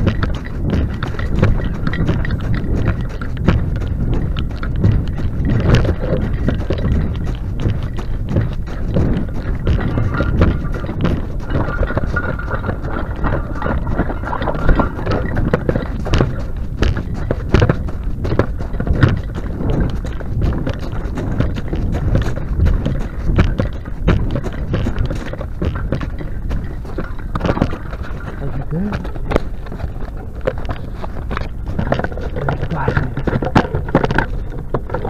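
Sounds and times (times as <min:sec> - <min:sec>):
footsteps crunching on gravel: 0:00.0 - 0:35.0
low rumble: 0:00.0 - 0:35.0.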